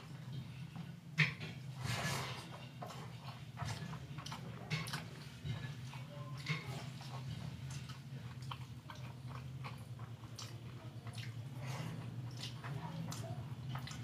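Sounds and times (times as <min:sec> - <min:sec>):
person chewing food: 0:01.2 - 0:14.0.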